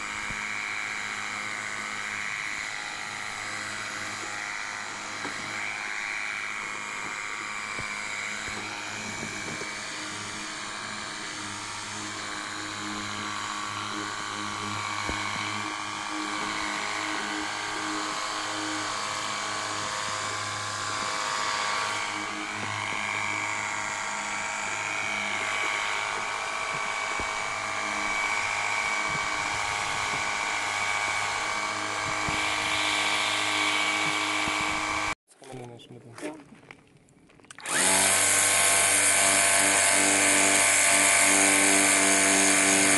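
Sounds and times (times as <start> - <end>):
electric pump whining: 0.0 - 35.2, 37.5 - 42.9.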